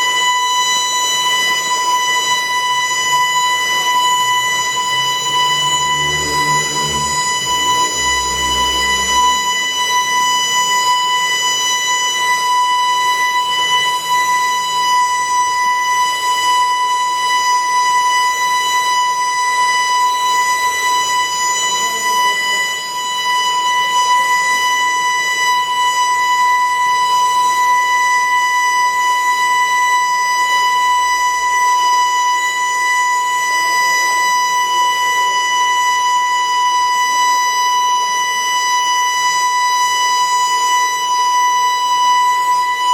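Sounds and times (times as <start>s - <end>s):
steady high alarm tone: 0.0s - 42.9s.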